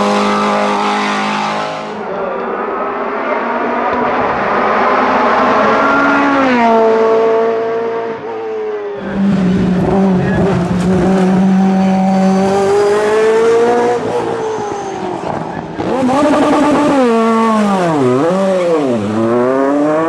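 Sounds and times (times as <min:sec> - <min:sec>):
race car engine passing at speed: 0:00.0 - 0:20.0.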